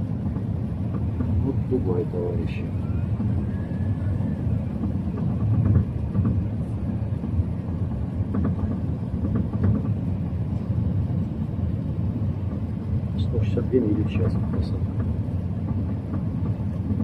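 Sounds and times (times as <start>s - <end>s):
airliner engines and airflow rumble: 0.0s - 17.0s.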